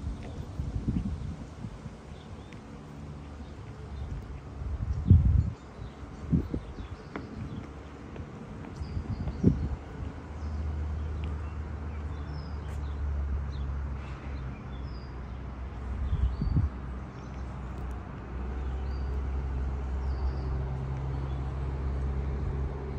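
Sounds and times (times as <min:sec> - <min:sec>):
low city traffic rumble: 0:00.0 - 0:22.9
small birds chirping: 0:00.2 - 0:21.7.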